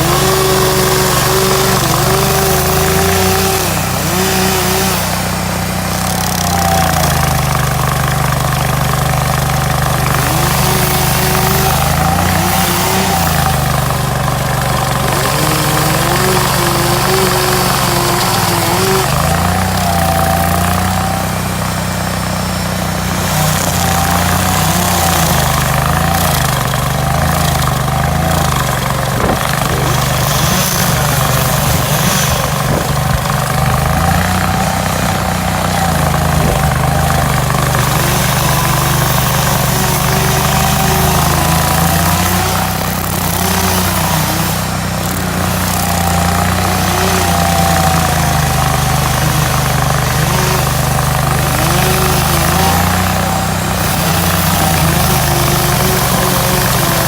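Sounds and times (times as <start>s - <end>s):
stump grinder engine running: 0.0s - 57.0s.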